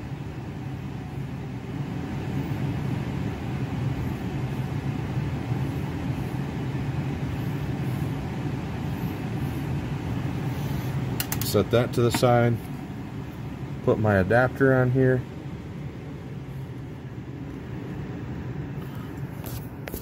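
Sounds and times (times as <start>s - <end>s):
furnace blower humming: 0.0s - 20.0s.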